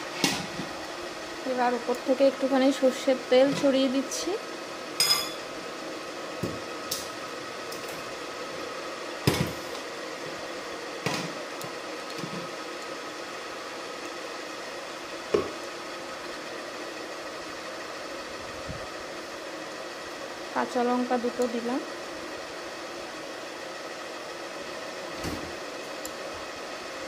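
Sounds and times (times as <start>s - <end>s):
kitchen fan hum: 0.0s - 27.0s.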